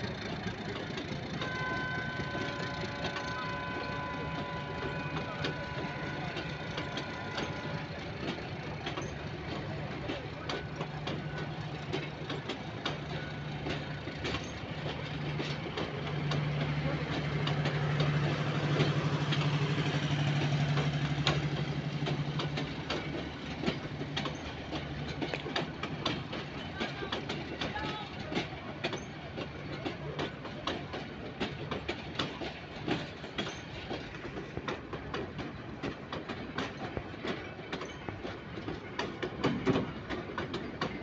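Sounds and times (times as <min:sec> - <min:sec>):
train wheels clicking over rail joints: 0:00.0 - 0:41.0.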